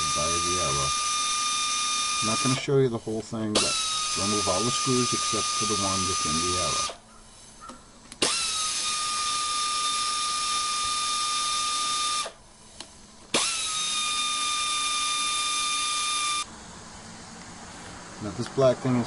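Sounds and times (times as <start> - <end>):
cordless power driver whining: 0.0 - 16.5.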